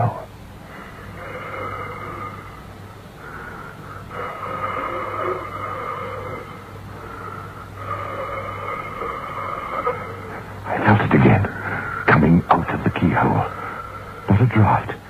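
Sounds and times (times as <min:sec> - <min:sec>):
eerie wavering tones: 0:00.0 - 0:14.5
low recording hum: 0:00.0 - 0:15.0.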